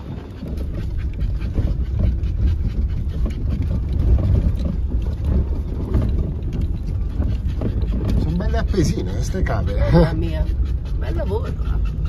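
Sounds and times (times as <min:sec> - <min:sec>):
engine and tyres rumbling: 0:00.0 - 0:12.0
knocks and rattles: 0:00.0 - 0:12.0.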